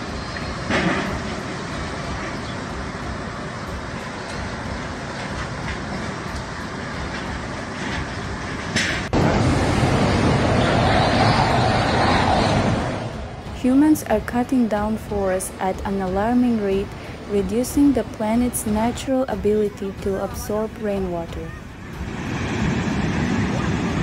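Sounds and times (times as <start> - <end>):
driving rain: 0.0 - 20.1
floodwater rushing: 0.0 - 24.0
strong wind: 0.0 - 24.0.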